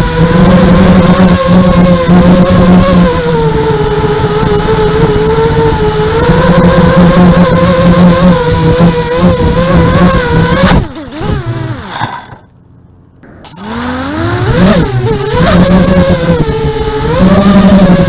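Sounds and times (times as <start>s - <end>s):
quadcopter motors whining: 0.0s - 12.6s, 13.2s - 18.0s.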